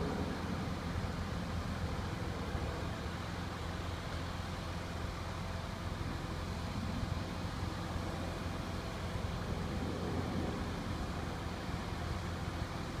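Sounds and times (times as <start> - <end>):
large engine running: 0.0 - 13.0.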